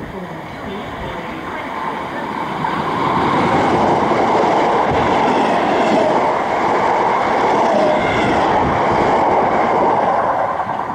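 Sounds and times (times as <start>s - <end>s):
train passing at speed: 0.0s - 10.9s.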